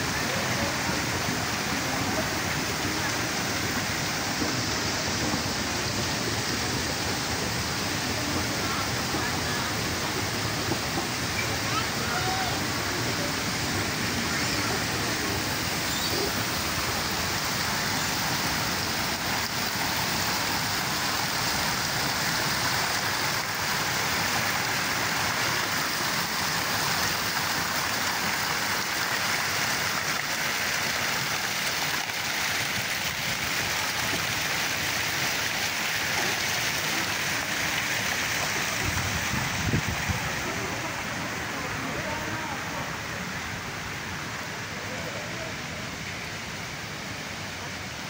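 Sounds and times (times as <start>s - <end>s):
fountain water splashing into pool: 0.0s - 48.0s.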